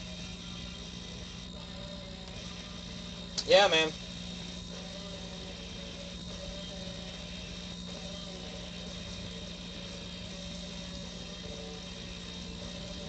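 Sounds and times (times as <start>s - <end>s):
even hiss: 0.0s - 13.0s
low hum: 0.0s - 13.0s.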